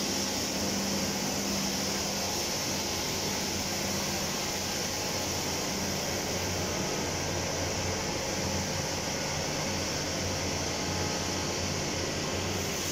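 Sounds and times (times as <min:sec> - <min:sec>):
continuous high hiss: 0:00.0 - 0:12.9.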